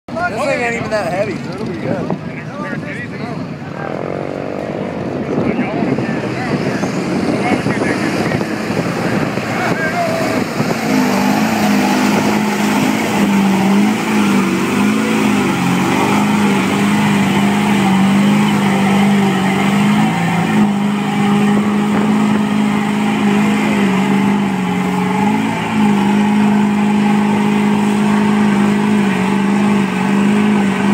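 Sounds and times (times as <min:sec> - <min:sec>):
tires churning in mud: 0:00.1 - 0:30.9
truck engine at high revs: 0:00.1 - 0:30.9.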